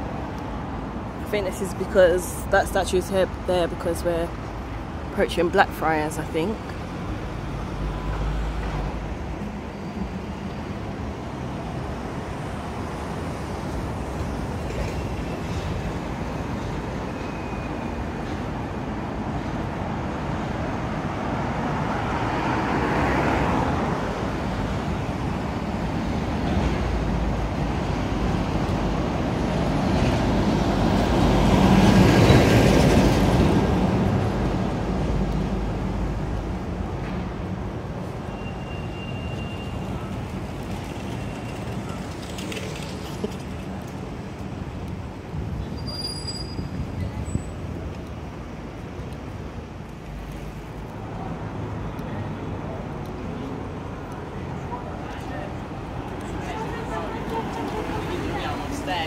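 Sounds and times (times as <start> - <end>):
city road traffic: 0.0 - 59.0
vehicles passing close by: 0.0 - 59.0.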